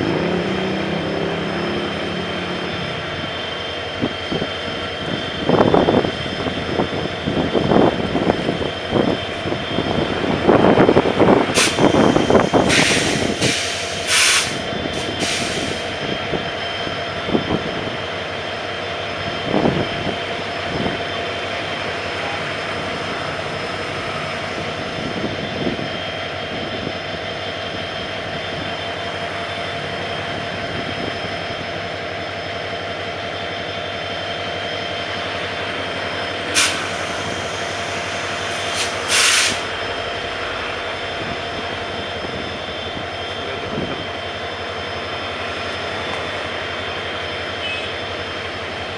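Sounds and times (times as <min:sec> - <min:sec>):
diesel locomotive engine humming: 0:00.0 - 0:48.9.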